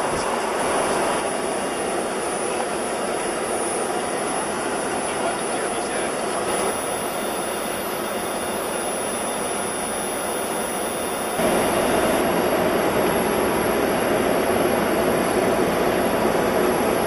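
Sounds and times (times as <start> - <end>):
jet engine and airflow rush: 0.0 - 17.0.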